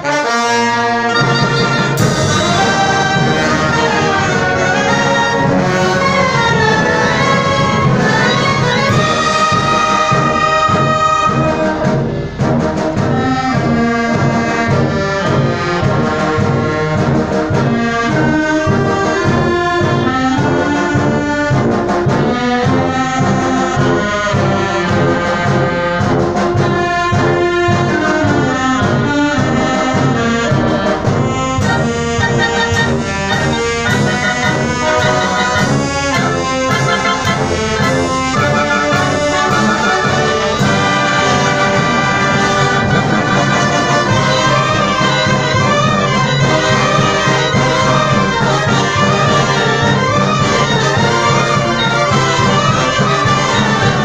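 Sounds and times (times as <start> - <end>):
concert wind band playing: 0.0 - 54.0
low brass beat: 0.0 - 54.0.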